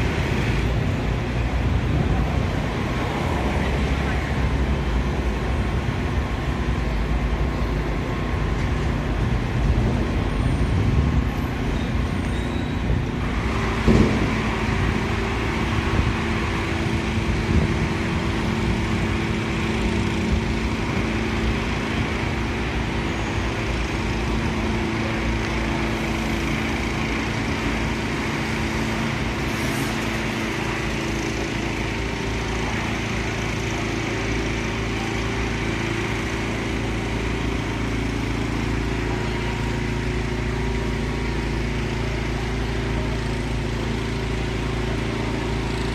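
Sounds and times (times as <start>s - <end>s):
engine hum: 0.0s - 45.9s
low street rumble: 0.0s - 45.9s.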